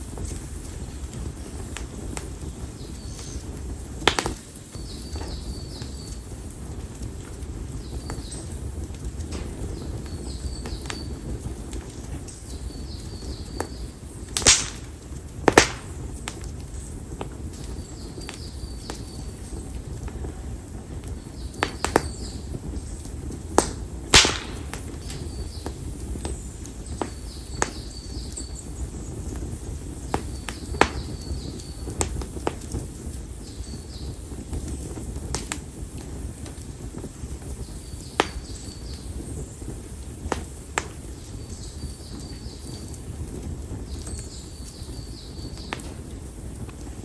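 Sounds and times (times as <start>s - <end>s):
firewood crackling and popping: 0.0s - 47.0s
low fire rumble: 0.0s - 47.0s.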